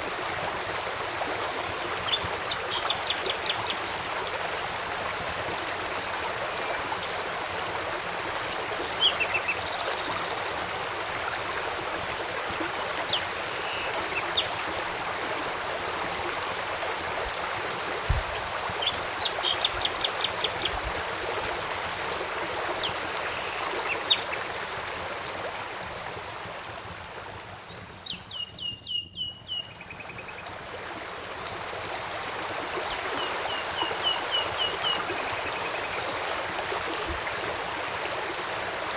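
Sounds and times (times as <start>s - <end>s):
river water flowing: 0.0s - 28.6s, 29.7s - 38.9s.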